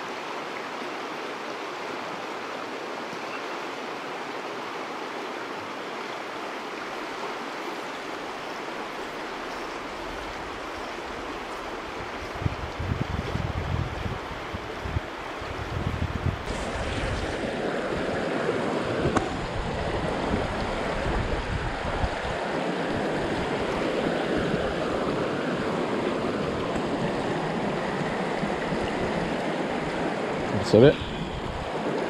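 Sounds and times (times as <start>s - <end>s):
water rushing over rocks: 0.0s - 32.0s.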